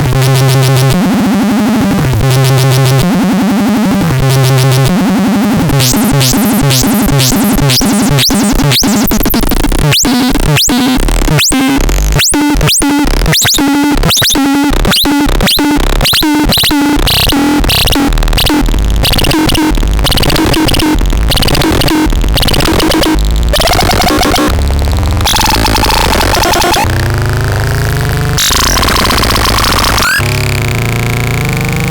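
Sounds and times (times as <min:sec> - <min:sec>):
harsh synthesizer sequence: 0:00.0 - 0:31.9.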